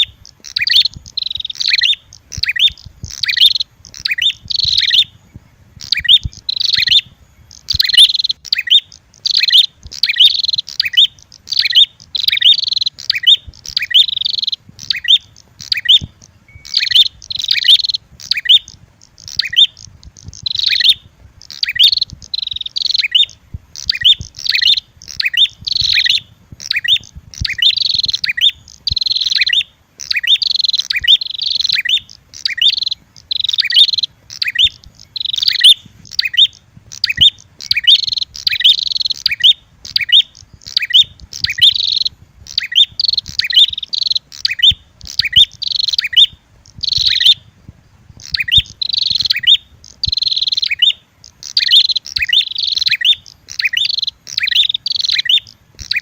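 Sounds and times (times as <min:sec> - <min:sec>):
sharp high bird chirps: 0:00.0 - 0:56.0.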